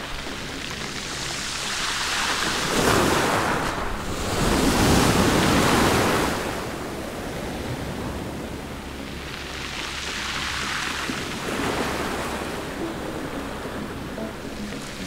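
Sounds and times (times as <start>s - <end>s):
surf breaking and foaming: 0.0s - 15.0s.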